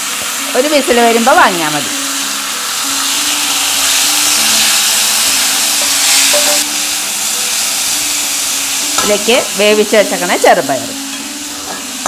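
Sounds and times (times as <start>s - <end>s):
banana peel sizzling in hot oil: 0.0s - 12.0s.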